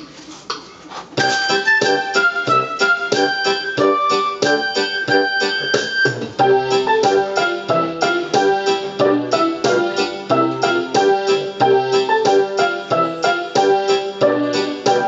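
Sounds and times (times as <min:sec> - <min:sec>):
electronic keyboard piano melody: 0:01.2 - 0:15.0.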